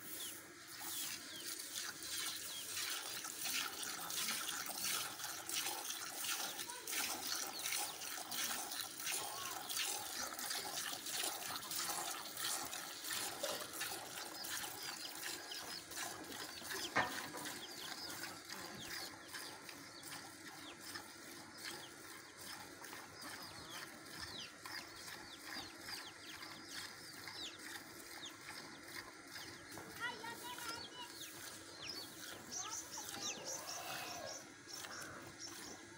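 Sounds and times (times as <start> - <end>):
milk squirting into steel bucket: 1.1 - 33.5.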